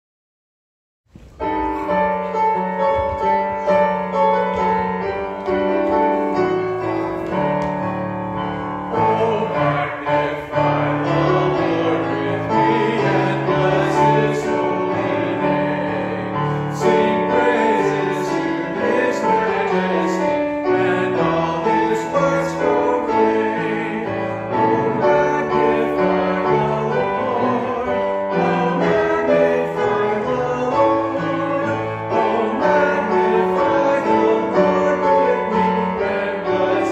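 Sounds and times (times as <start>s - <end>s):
hymn on piano: 1.1s - 36.9s
voices singing: 3.4s - 36.9s.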